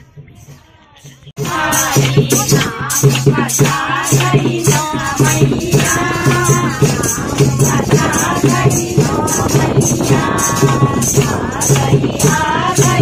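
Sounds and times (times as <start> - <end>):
women singing together: 0.0 - 13.0
tambourine jingling: 0.1 - 13.0
hand drum beat: 1.4 - 13.0.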